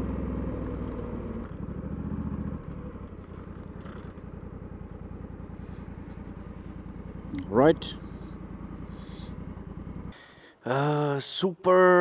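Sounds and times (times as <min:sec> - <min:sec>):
motorcycle engine idling: 0:00.0 - 0:10.5.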